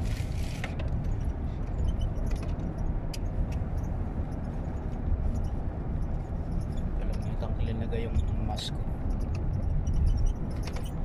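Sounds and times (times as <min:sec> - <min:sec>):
car cabin road and engine rumble: 0:00.0 - 0:11.0
small ticks and rattles: 0:00.0 - 0:11.0.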